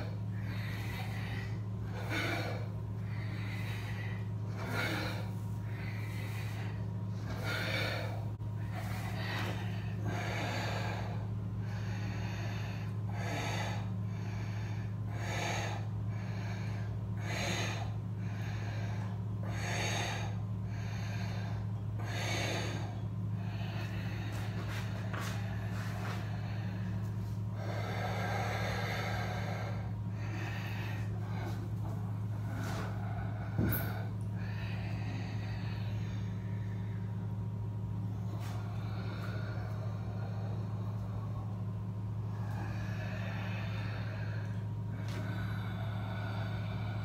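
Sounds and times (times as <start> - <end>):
deep throat breathing: 0.0 - 47.0
steady low hum: 0.0 - 47.0.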